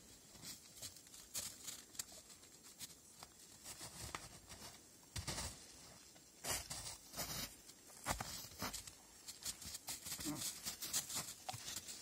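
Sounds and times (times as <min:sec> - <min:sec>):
footsteps crunching on snow: 0:00.0 - 0:12.0.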